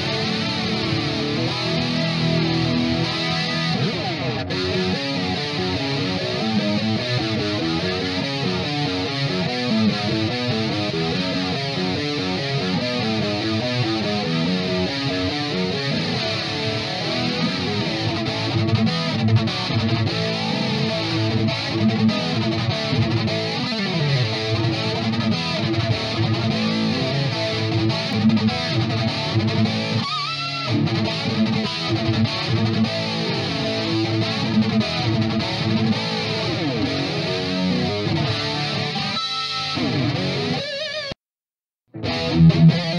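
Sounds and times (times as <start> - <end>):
electric guitar riffing: 0.0 - 41.2, 41.9 - 42.9.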